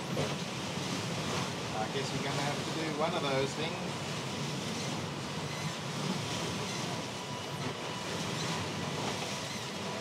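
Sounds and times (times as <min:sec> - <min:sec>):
rushing wind and water: 0:00.0 - 0:10.0.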